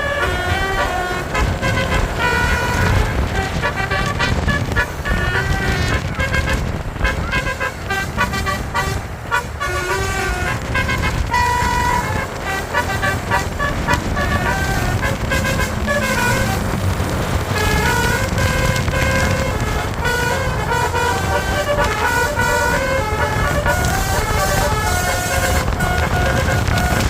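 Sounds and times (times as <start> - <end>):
bus air horn melody: 0.0 - 27.0
bus engine rumble: 0.0 - 27.0
traffic: 0.0 - 27.0.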